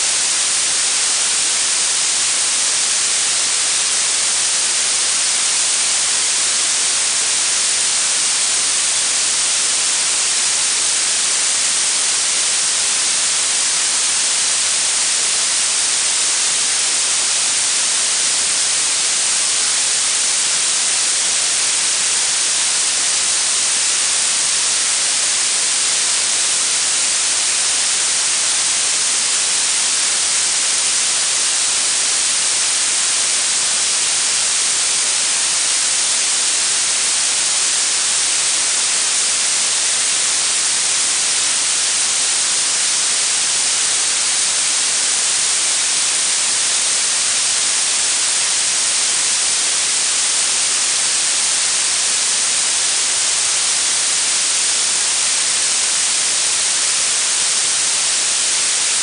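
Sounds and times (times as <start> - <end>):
synthetic blue noise hiss: 0.0 - 57.1.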